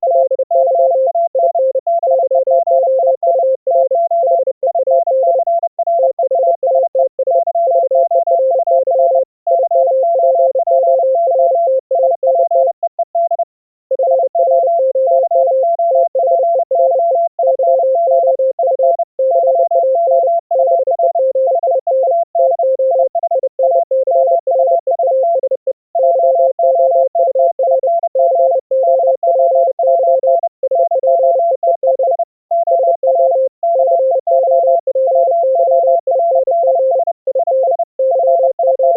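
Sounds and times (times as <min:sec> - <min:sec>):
higher morse code tones: 0:00.0 - 0:38.9
lower morse code tones: 0:00.0 - 0:38.9.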